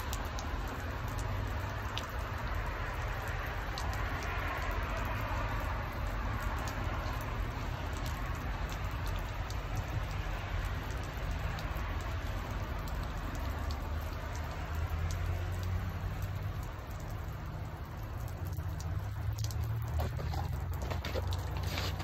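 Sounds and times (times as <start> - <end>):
meltwater dripping and pattering: 0.0 - 22.0.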